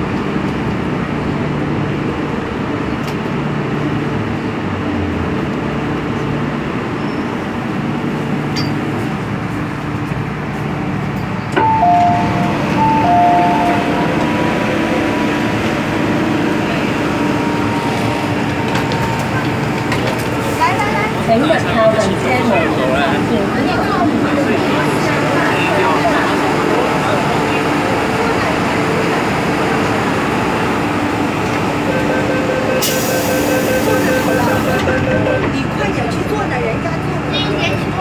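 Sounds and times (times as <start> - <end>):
train car running hum: 0.0 - 38.0.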